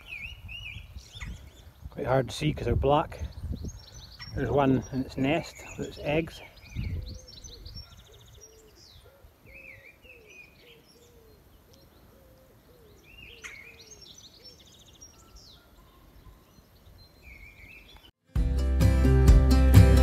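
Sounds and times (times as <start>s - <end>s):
small birds chirping and trilling: 0.0s - 18.2s.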